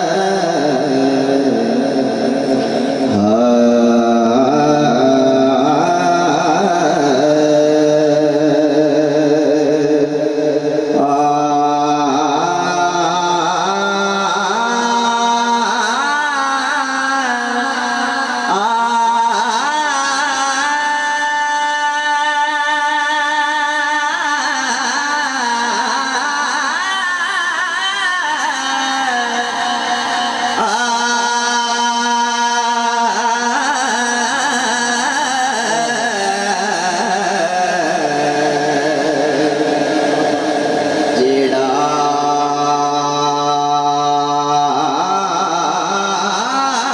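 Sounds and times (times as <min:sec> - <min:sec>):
man singing unaccompanied: 0:00.0 - 0:46.9.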